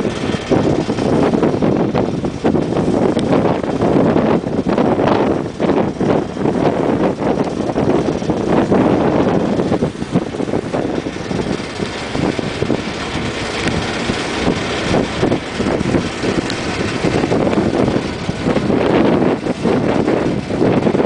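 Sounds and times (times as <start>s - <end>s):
ferry engine running: 0.0s - 21.0s
wind buffeting microphone: 0.0s - 21.0s.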